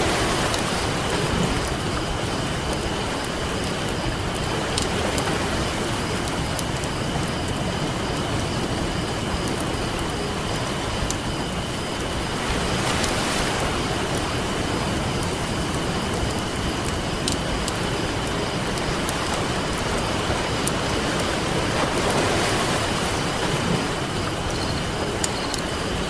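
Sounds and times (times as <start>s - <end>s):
campfire crackling: 0.0s - 26.0s
ocean waves washing on beach: 0.0s - 26.0s.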